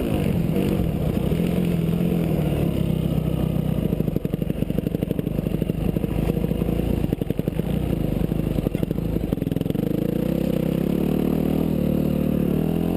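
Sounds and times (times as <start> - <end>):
motocross engine running: 0.0 - 12.9.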